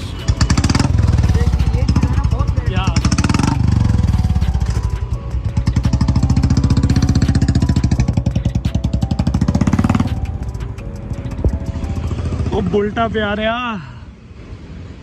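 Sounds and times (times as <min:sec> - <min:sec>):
motorcycle engine thumping: 0:00.1 - 0:12.7.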